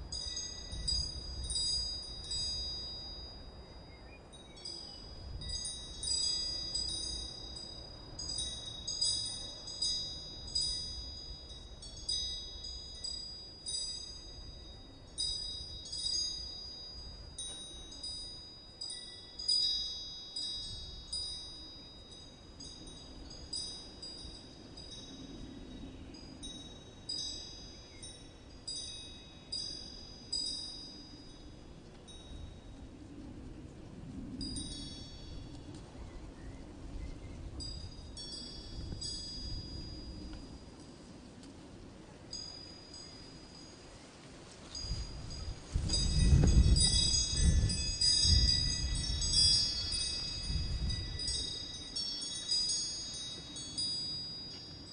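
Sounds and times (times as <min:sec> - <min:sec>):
metal wind chimes ringing: 0:00.0 - 0:32.9, 0:34.4 - 0:35.8, 0:36.9 - 0:41.2, 0:42.2 - 0:54.9.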